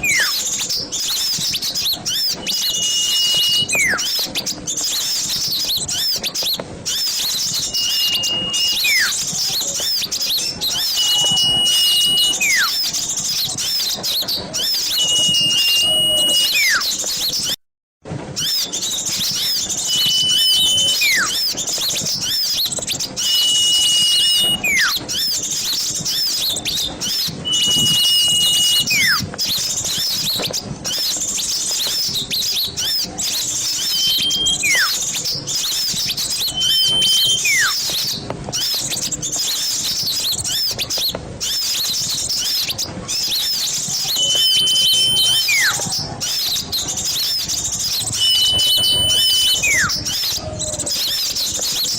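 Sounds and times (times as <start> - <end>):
held and falling whistle call: 0.0 - 17.6, 18.4 - 51.9
small birds chirping: 0.0 - 17.6, 18.4 - 51.9.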